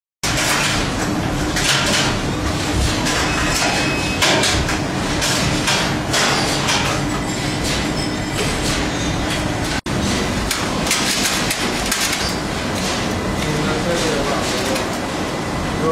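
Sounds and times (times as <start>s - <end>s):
faint machine hum: 0.2s - 15.9s.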